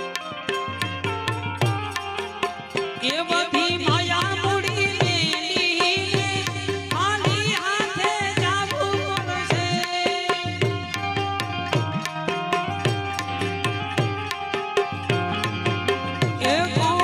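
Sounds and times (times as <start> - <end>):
wavering melody instrument: 0.0 - 5.4, 7.5 - 17.0
tabla playing fast rhythm: 0.0 - 17.0.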